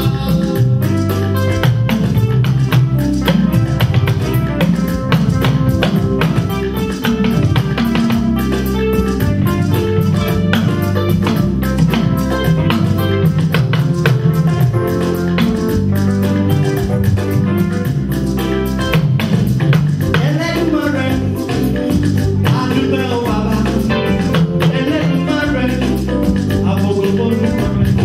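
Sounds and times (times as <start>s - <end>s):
band music with guitars and drums: 0.0s - 28.0s.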